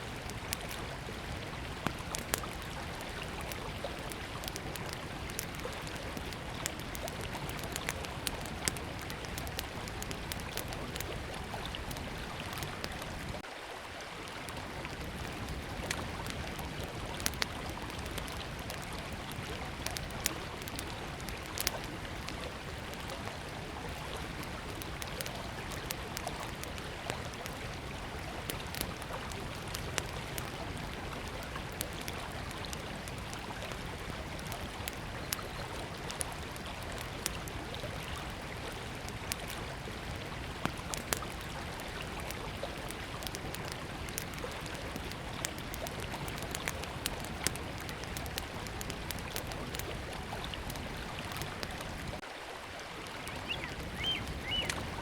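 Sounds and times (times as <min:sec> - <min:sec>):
campfire crackling and popping: 0:00.0 - 0:13.5, 0:14.2 - 0:52.2, 0:53.0 - 0:55.0.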